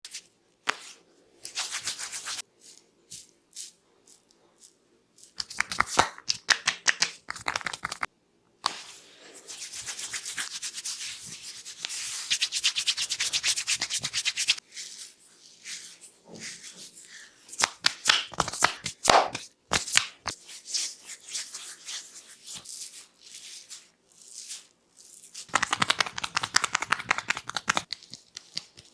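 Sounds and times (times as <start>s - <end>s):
hands rubbing skin and hair: 0.1s - 28.9s.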